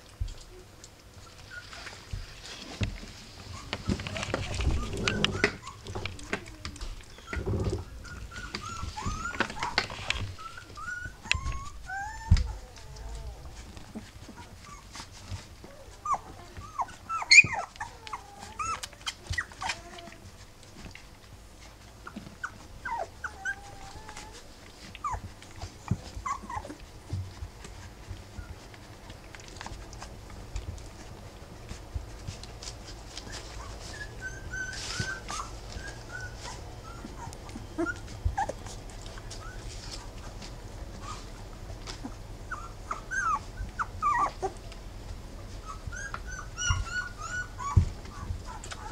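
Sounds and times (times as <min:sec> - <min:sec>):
puppies whimpering and squeaking: 0:00.2 - 0:48.9.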